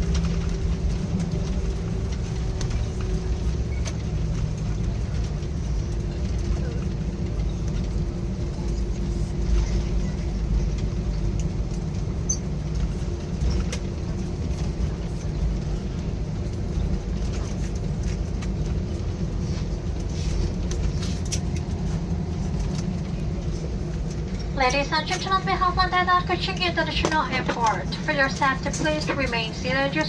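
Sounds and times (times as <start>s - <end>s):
jet engine cabin rumble: 0.0s - 30.0s.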